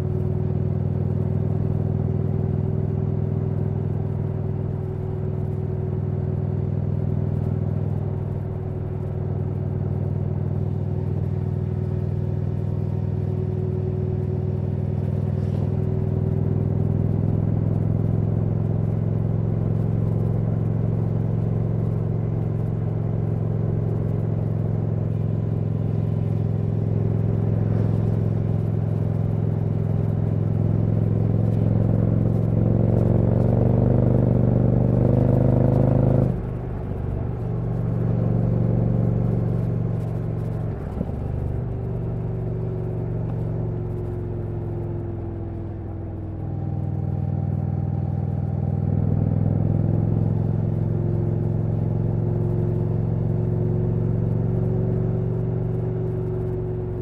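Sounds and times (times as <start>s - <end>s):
motorcycle engine cruising: 4.5s - 57.0s.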